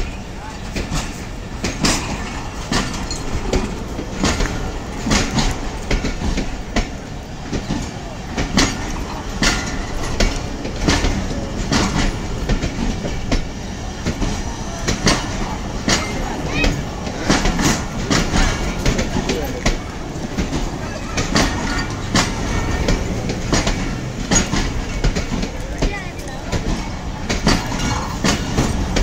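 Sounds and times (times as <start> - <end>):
train rumble: 0.0 - 29.0
train wheels clunking over rail joints: 0.0 - 29.0.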